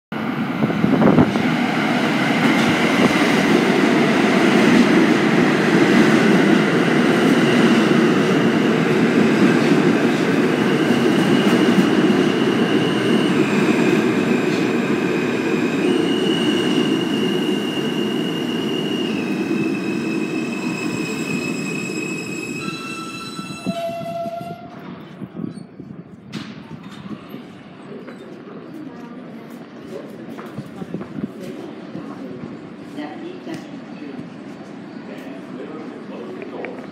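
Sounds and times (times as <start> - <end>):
train wheels rumbling on rails: 0.4 - 36.9.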